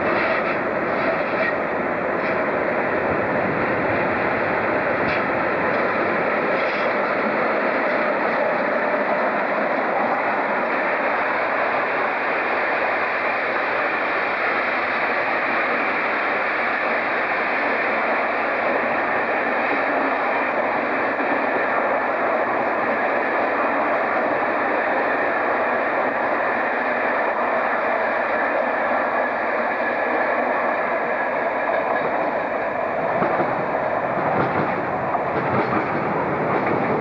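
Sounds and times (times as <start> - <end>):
train wheels rushing on rails: 0.0 - 37.0.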